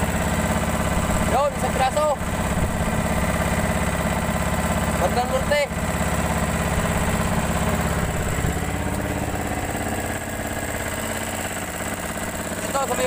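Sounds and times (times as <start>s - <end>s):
boat engine throbbing: 0.0s - 13.0s.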